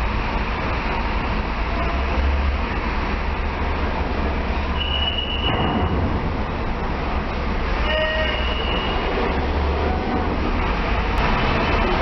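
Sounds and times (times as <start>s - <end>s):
large vehicle rumbling: 0.0s - 12.0s.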